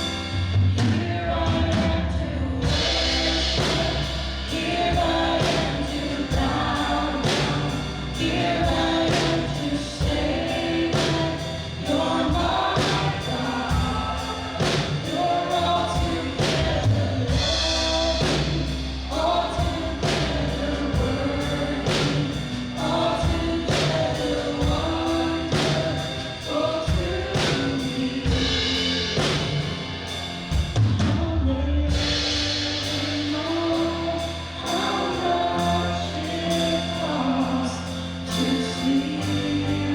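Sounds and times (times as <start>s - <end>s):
band playing worship music: 0.0s - 39.9s
choir and singers: 0.0s - 39.9s
steady drum beat: 0.0s - 39.9s.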